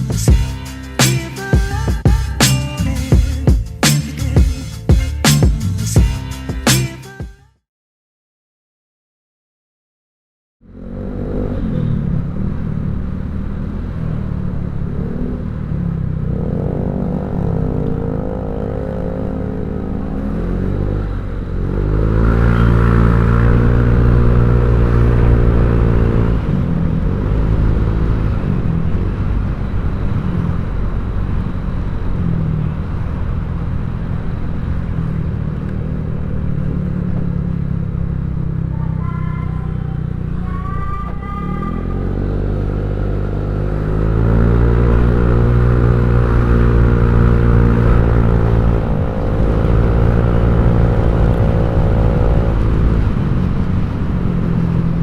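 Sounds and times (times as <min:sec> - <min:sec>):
scooter engine revving: 0:10.7 - 0:55.0.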